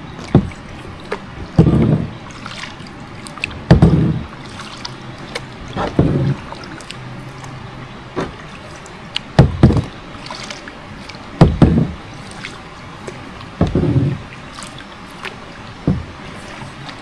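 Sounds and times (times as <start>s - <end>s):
paddle strokes splashing water: 0.0s - 17.0s.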